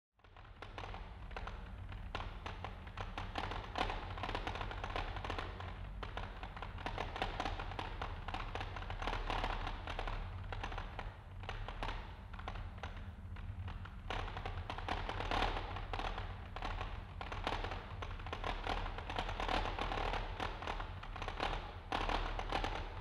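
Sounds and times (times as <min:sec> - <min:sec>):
steady low hum: 0:00.2 - 0:23.0.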